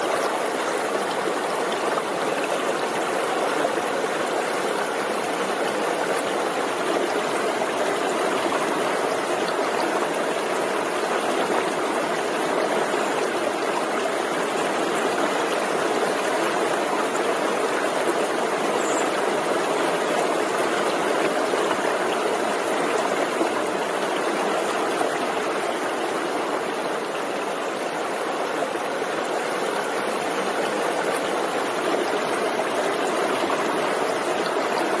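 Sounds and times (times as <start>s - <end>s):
stream flowing over rocks: 0.0s - 35.0s.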